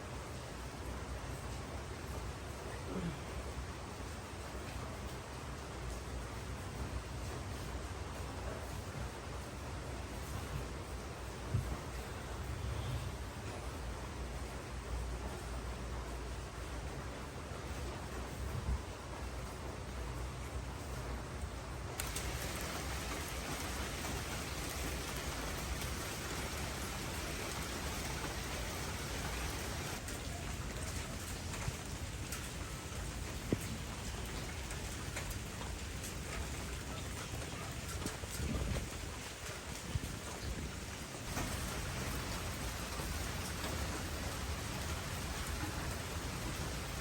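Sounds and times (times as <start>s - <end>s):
steady rain hissing: 0.0s - 47.0s.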